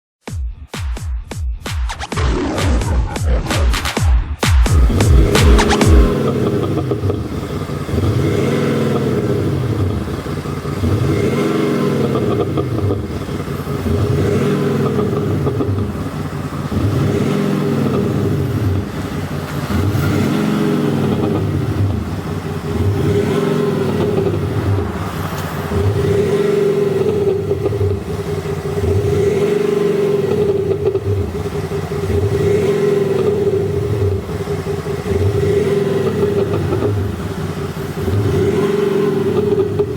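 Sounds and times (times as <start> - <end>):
diesel engine revving: 2.0 - 39.9.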